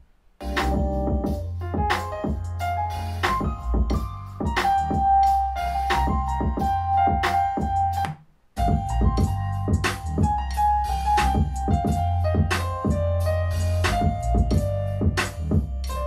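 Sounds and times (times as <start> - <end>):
music with keyboard notes and deep bass: 0.4 - 16.0.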